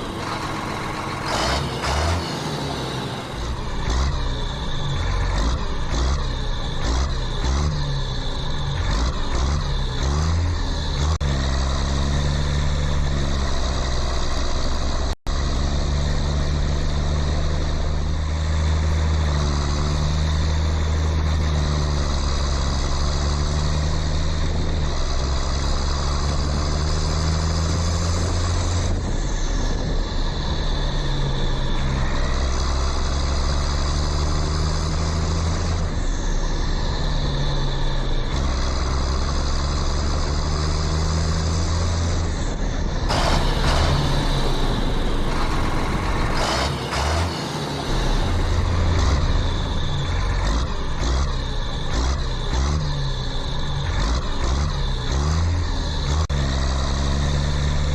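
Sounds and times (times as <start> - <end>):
low engine-like drone: 0.0 - 57.9.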